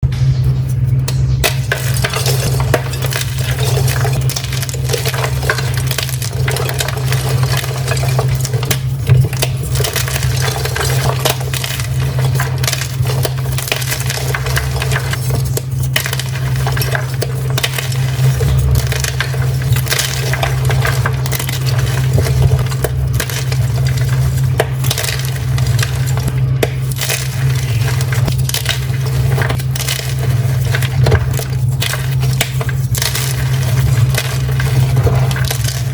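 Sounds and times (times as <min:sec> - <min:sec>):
steady low hum: 0:00.0 - 0:35.9
chalk being crushed: 0:00.6 - 0:35.9.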